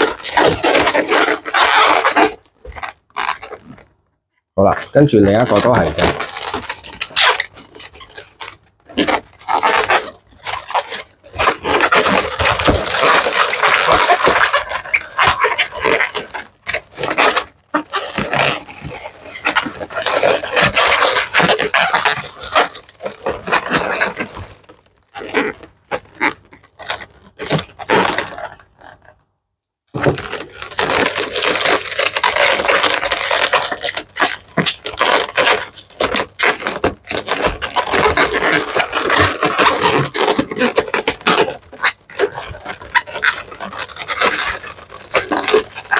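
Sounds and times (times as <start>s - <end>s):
balloons squeaking and rubbing: 0.0s - 29.2s, 29.9s - 45.9s.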